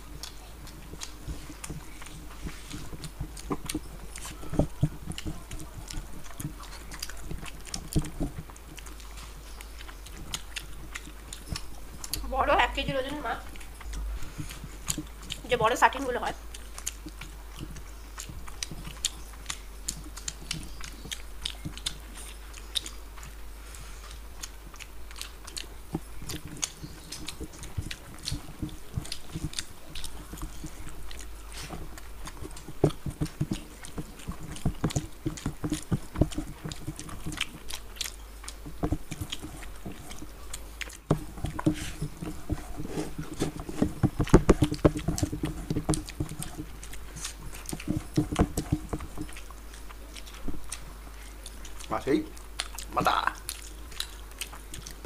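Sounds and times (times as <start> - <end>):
wet chewing and lip-smacking: 0.0 - 55.0.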